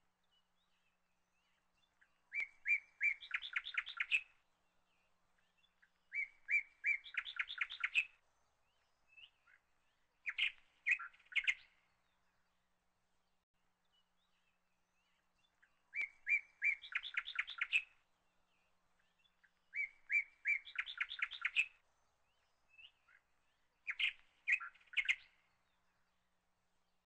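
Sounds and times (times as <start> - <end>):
songbird singing with trills: 0.2 - 26.3.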